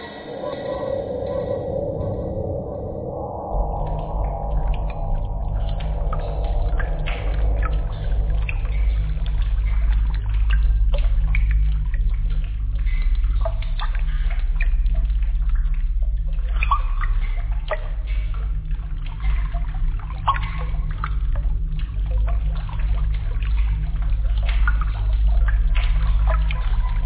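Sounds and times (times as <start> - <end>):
low rumble: 0.0 - 27.0
water dripping and trickling: 0.9 - 27.0.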